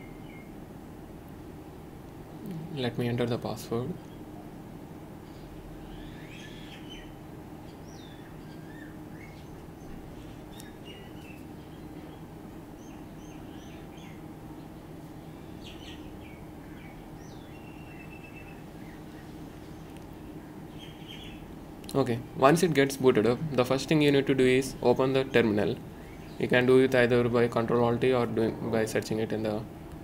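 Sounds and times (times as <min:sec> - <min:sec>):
birds chirping: 0:00.0 - 0:00.6, 0:02.4 - 0:29.4
steady low hum: 0:00.0 - 0:30.0.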